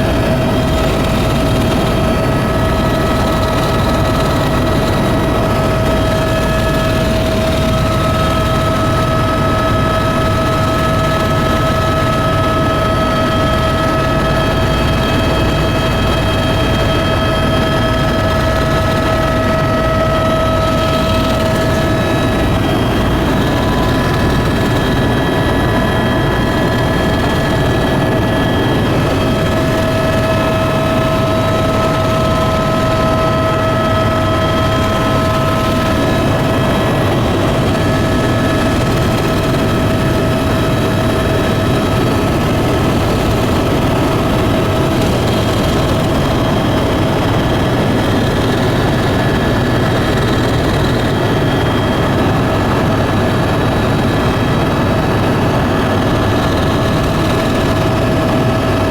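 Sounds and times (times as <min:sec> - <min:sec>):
propeller aircraft engines droning: 0:00.0 - 0:58.9.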